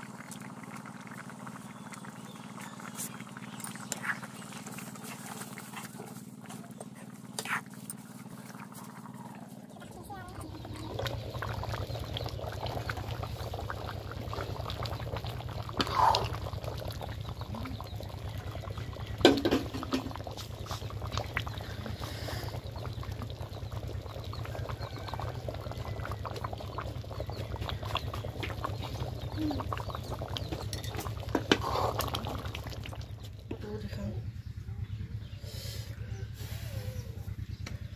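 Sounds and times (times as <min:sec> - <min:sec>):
curry bubbling in a pan: 0:00.0 - 0:06.4, 0:08.2 - 0:33.5.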